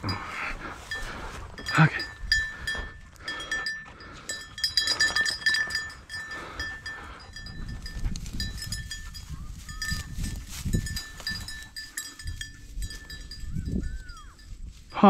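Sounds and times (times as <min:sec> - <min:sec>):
rustling and footsteps in grass: 0:00.0 - 0:03.1, 0:04.8 - 0:15.0
small bell jingling: 0:00.0 - 0:15.0.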